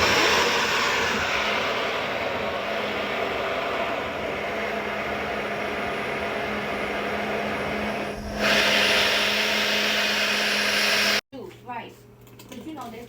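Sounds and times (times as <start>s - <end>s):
blender motor running: 0.0s - 11.2s.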